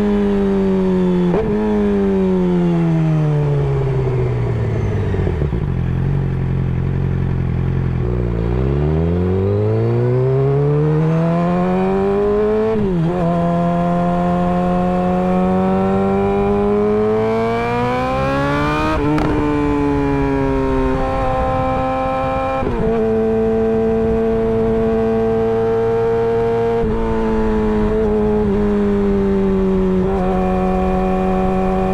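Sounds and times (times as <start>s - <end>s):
motorcycle engine revving through gears: 0.0s - 31.9s.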